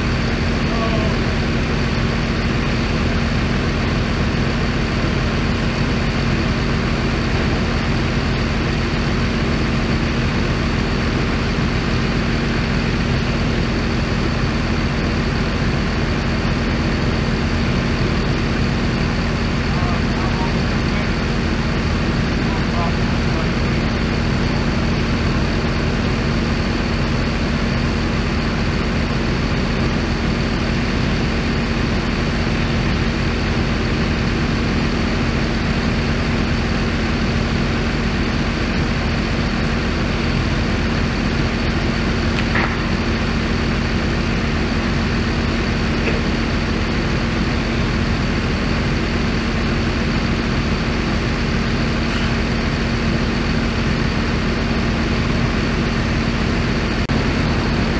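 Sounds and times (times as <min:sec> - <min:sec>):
heavy equipment engine idling: 0:00.0 - 0:57.9.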